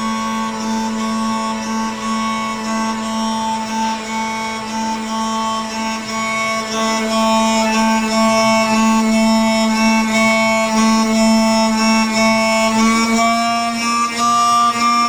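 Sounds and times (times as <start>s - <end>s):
router spindle milling whine: 0.0s - 15.0s.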